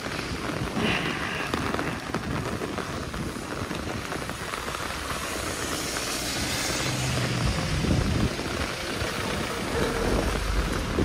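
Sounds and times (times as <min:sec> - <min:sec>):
car tyres swishing on wet road: 0:00.0 - 0:11.0
rain on wet pavement: 0:00.0 - 0:11.0.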